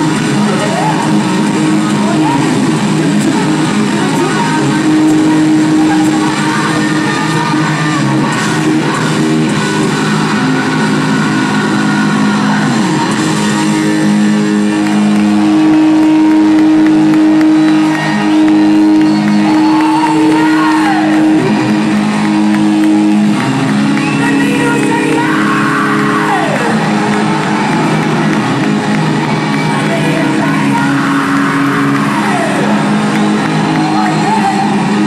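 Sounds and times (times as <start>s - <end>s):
distorted electric guitar: 0.0s - 35.0s
rock band playing: 0.0s - 35.0s.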